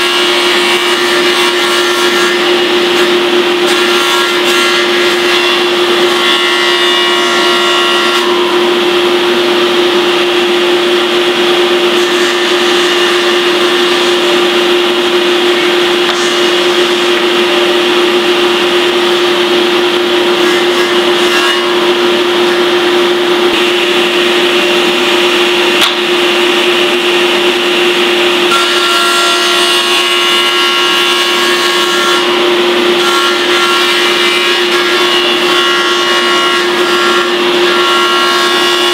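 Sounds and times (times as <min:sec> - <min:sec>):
table saw cutting wood: 0:00.0 - 0:38.9.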